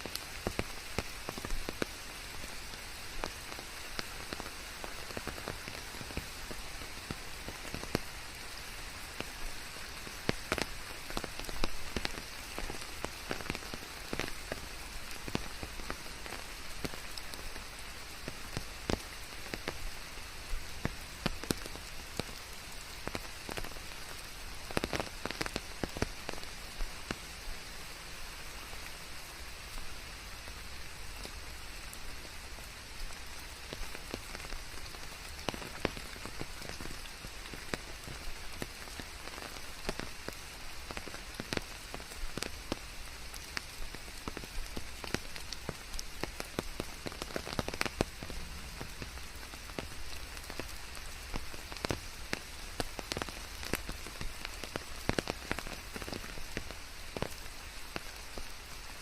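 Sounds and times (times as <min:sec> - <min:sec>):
raindrops striking close by: 0:00.0 - 0:59.0
steady rain falling: 0:00.0 - 0:59.0.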